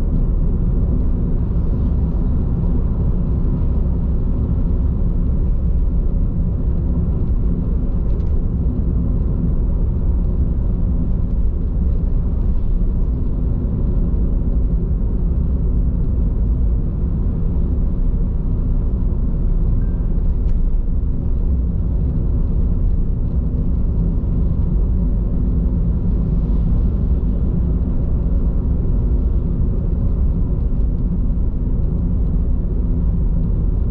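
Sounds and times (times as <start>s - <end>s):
road and tyre noise in car: 0.0s - 33.9s.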